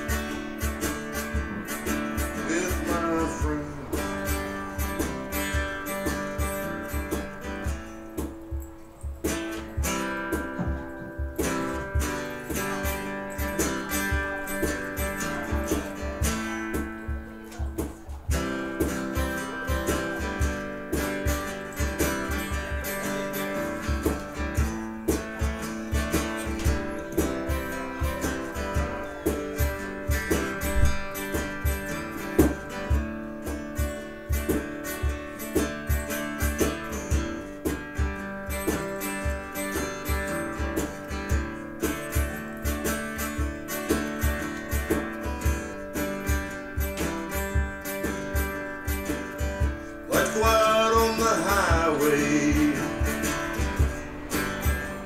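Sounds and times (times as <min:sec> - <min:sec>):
guitar lines: 0:00.0 - 0:55.0
live band playing: 0:00.0 - 0:55.0.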